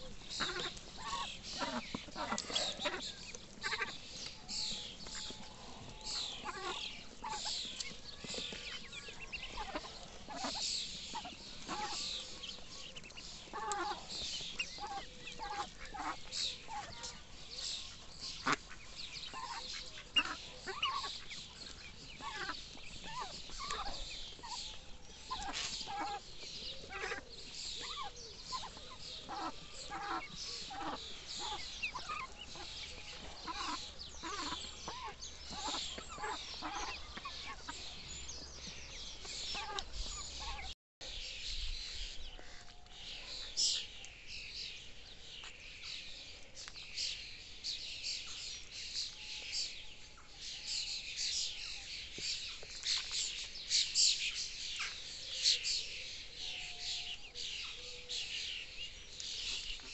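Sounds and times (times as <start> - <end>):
ducklings peeping: 0.0 - 59.9.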